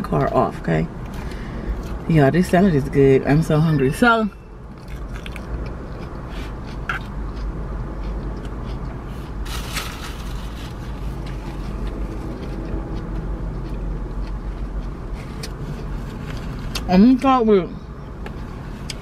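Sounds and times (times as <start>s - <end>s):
air-conditioning fan blowing: 0.0s - 19.0s.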